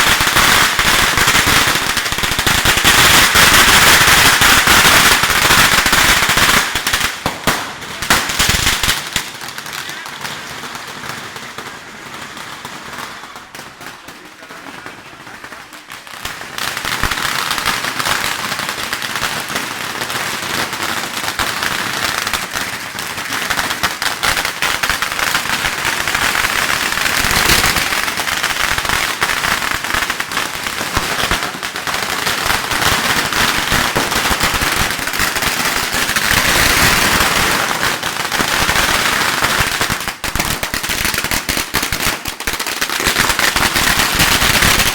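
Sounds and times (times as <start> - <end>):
firecrackers crackling bangs: 0.0 - 44.9.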